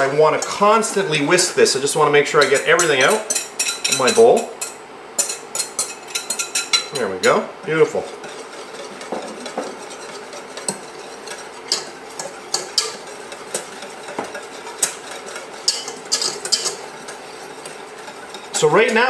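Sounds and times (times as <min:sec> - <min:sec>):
whisk clinking in a metal saucepan: 0:02.3 - 0:19.0.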